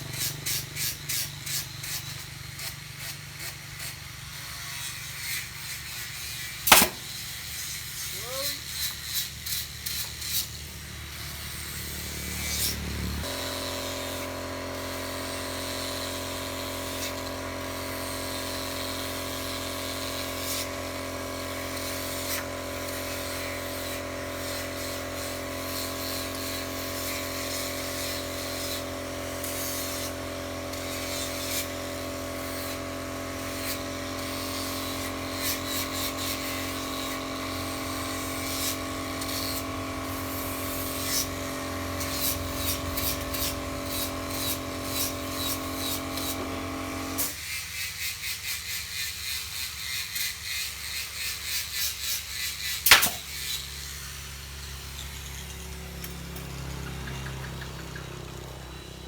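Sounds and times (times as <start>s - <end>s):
electric motor running: 0.0s - 47.4s, 52.9s - 59.0s.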